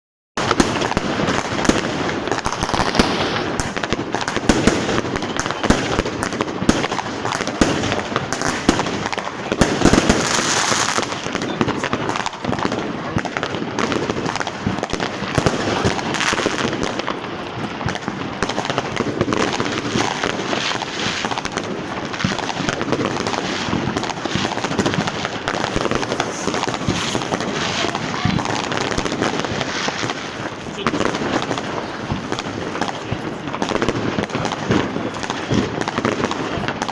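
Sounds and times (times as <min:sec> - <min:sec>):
fireworks and firecrackers crackling: 0:00.4 - 0:36.9.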